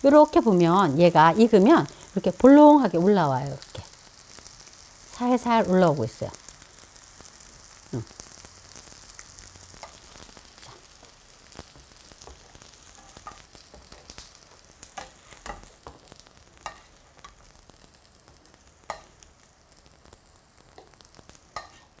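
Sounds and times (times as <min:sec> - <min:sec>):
tofu sizzling in a pan: 0:00.0 - 0:22.0.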